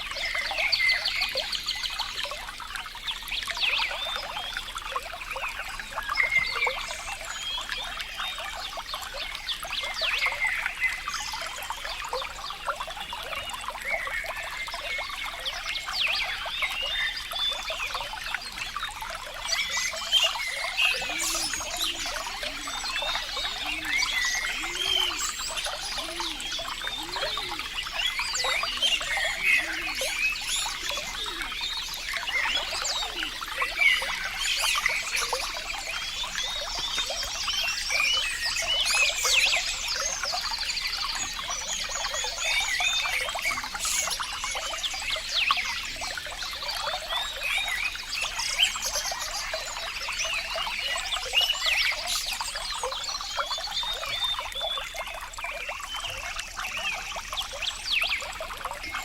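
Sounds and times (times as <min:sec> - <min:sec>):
stream trickling and babbling: 0:00.0 - 0:59.0.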